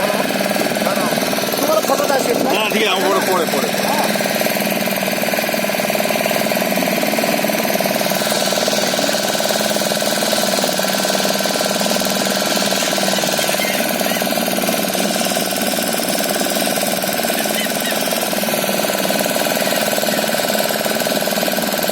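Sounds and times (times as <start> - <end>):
engine running steadily: 0.0 - 21.9.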